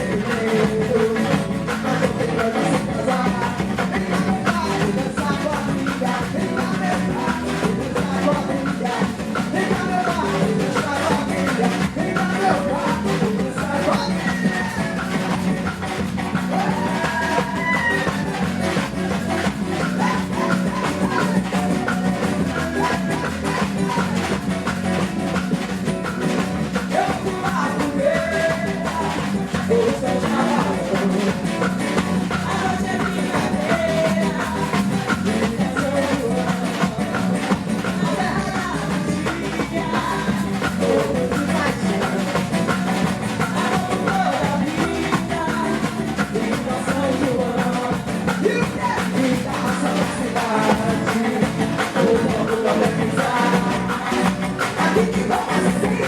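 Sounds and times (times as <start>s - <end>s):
acoustic guitar: 0.0s - 56.0s
bass: 0.0s - 56.0s
hand percussion: 0.0s - 56.0s
live band playing: 0.0s - 56.0s
person singing: 0.0s - 56.0s.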